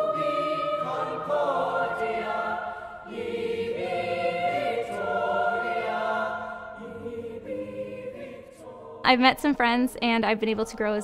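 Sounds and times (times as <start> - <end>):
choir singing sustained chords: 0.0 - 9.5.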